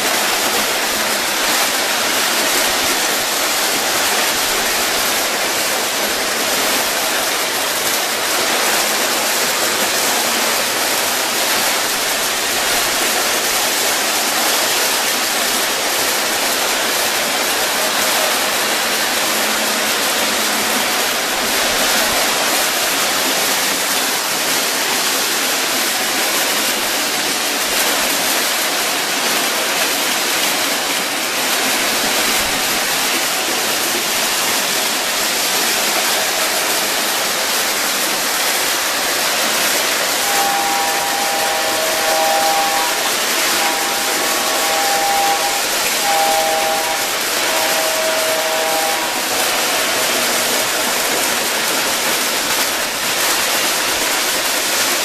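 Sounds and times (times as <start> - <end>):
model trains running on metal rails: 0.0 - 55.0.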